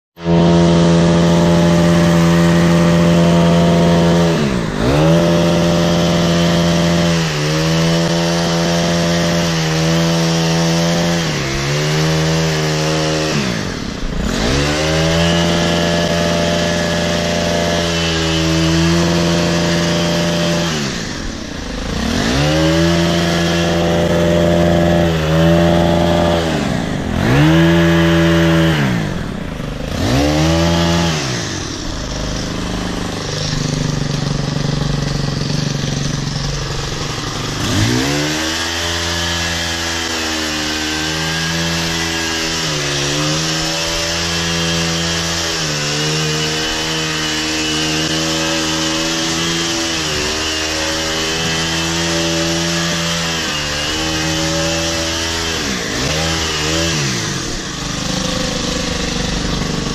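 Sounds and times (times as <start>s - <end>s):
hedge trimmer engine at high throttle: 0.2s - 59.9s.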